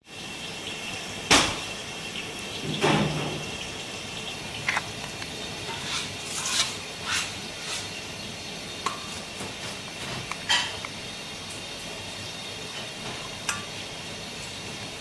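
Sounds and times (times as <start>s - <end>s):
steady background hum: 0.1s - 15.0s.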